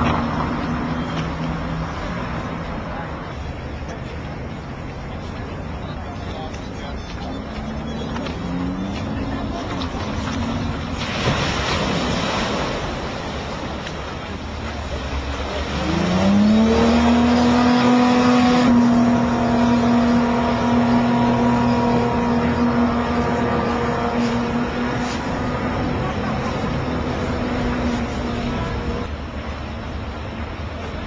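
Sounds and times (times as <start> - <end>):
vehicle engine: 0.0 - 31.0.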